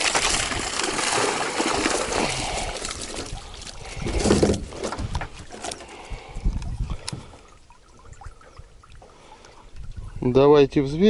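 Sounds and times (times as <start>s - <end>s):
fish handling noise: 0.0s - 10.2s
water pouring and trickling: 0.0s - 10.8s.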